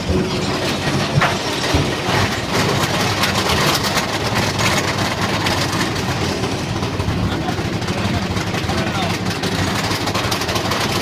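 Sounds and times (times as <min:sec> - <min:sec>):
rattling clatter: 0:00.0 - 0:11.0
roller coaster rushing on track: 0:00.0 - 0:11.0.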